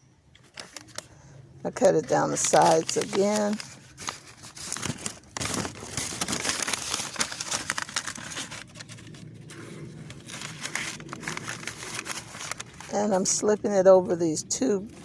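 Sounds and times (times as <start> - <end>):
paper bag crinkling: 0.4 - 13.4.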